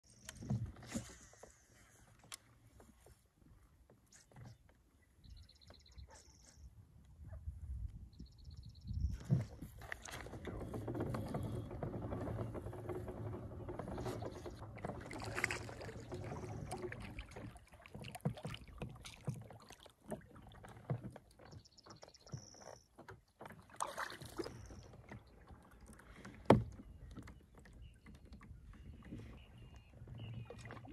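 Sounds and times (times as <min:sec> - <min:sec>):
knocks and clicks against hull: 0:00.1 - 0:04.8, 0:08.8 - 0:30.9.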